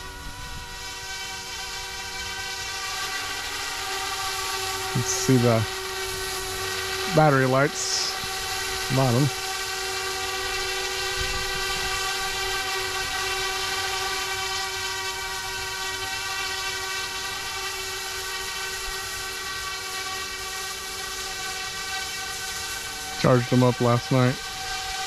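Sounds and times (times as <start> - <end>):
toy helicopter motor whine: 0.0 - 25.0.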